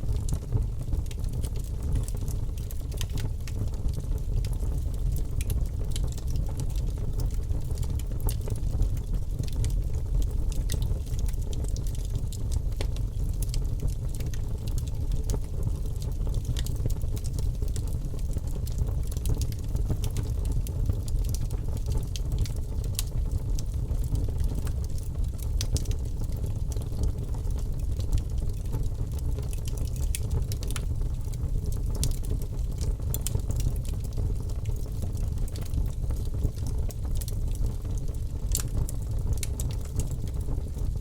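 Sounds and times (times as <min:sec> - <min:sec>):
fire crackling and popping: 0:00.0 - 0:41.0
fire rumbling: 0:00.0 - 0:41.0.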